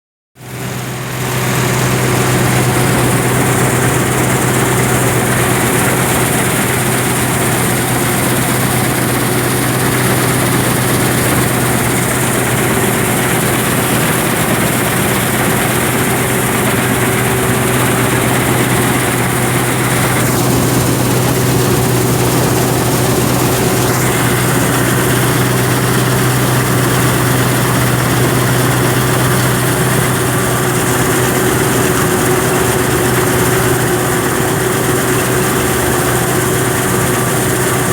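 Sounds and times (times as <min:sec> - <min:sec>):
combine harvester running: 0:00.4 - 0:37.9.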